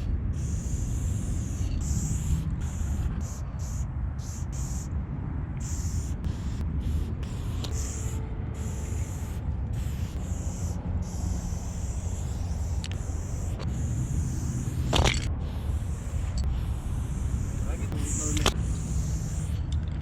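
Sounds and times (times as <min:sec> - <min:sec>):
steady low rumble: 0:00.0 - 0:20.0
spray paint can hissing: 0:00.4 - 0:04.9, 0:05.6 - 0:20.0.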